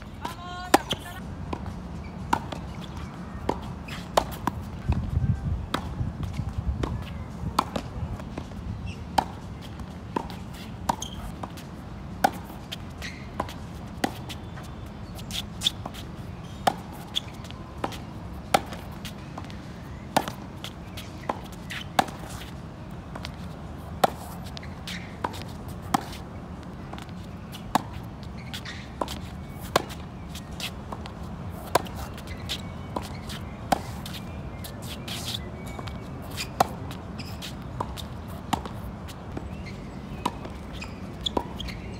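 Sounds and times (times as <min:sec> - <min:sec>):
tennis balls struck by racquets: 0:00.0 - 0:05.1, 0:05.7 - 0:41.9
tennis balls bouncing on court: 0:00.0 - 0:41.9.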